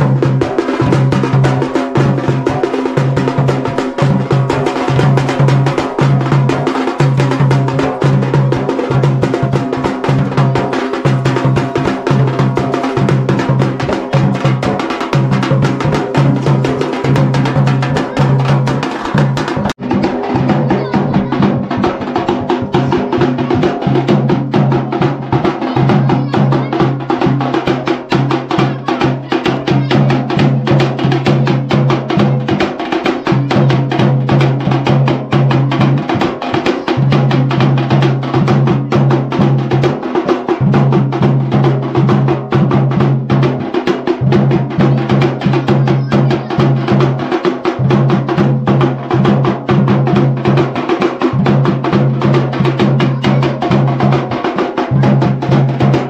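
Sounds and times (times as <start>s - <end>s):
fast drumming: 0.0s - 56.0s.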